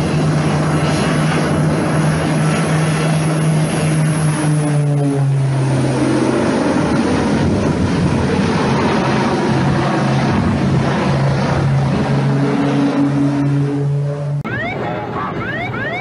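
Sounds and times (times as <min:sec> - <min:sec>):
propeller airplane passing by: 0:00.0 - 0:16.0.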